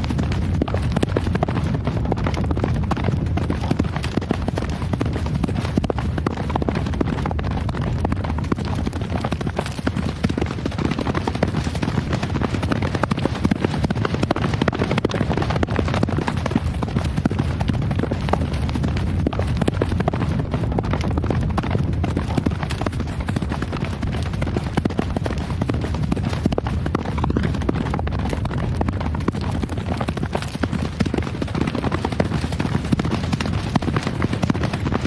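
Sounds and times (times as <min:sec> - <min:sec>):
horse hooves galloping: 0:00.0 - 0:35.0.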